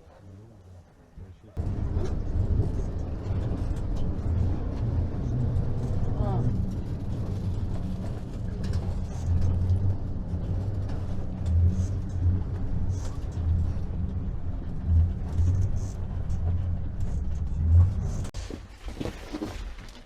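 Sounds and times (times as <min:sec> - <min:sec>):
vehicle engine and road drone: 0:01.6 - 0:18.4.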